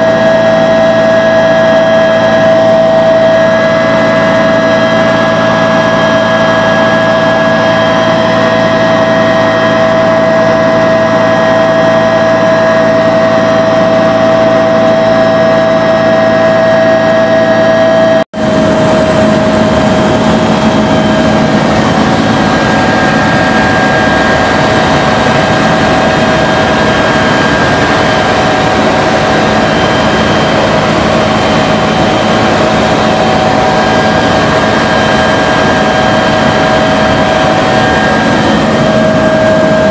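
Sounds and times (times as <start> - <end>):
helicopter engines and rotor drone: 0.0 - 39.9.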